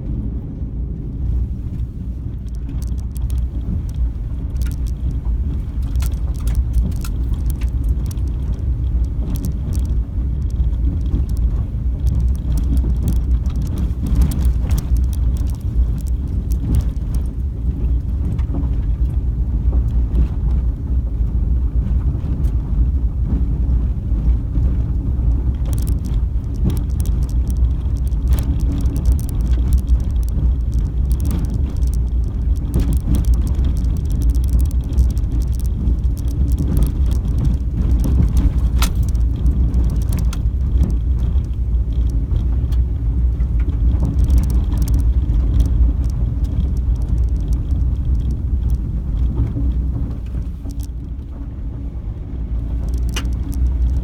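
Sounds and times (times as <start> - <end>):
car engine and tyres rumbling: 0.0 - 54.0
clicks and rattles from rough road: 0.0 - 54.0.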